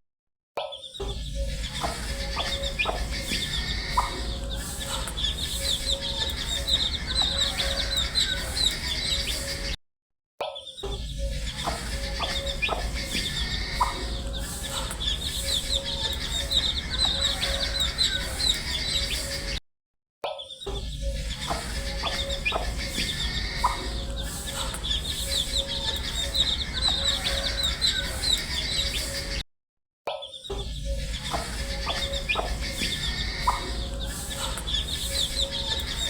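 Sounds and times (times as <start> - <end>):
steady low hum: 1.2 - 9.7, 11.1 - 19.2, 20.8 - 29.4, 30.7 - 36.0
baby chicks peeping: 1.4 - 9.7, 11.0 - 19.6, 20.6 - 29.4, 30.8 - 36.0.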